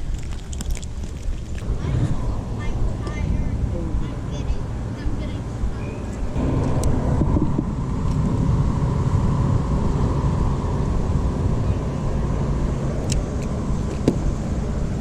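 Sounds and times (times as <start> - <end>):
tugboat engine droning: 0.0 - 15.0.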